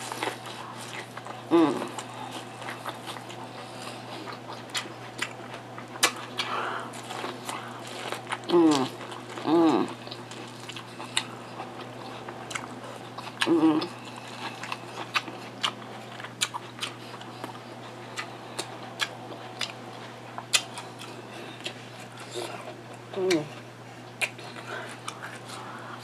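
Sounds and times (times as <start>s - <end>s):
chewing and biting corn: 0.0s - 26.0s
voiced hum: 0.0s - 26.0s.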